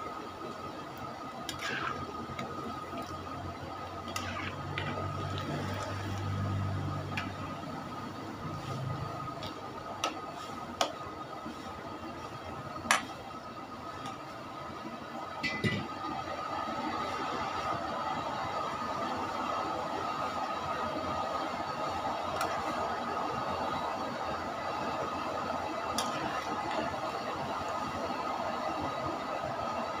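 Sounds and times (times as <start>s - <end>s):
chicken sizzling in hot oil: 0.0s - 14.4s, 15.3s - 30.0s.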